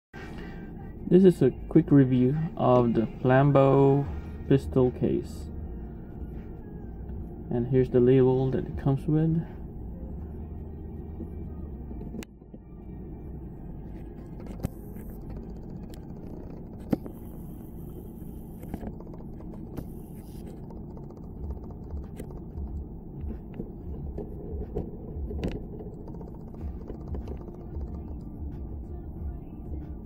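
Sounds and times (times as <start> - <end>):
steady low rumble: 0.3 - 30.0.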